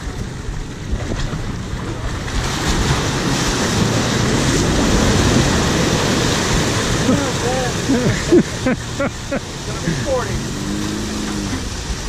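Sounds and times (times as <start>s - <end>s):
waves breaking against concrete steps: 0.0s - 12.0s.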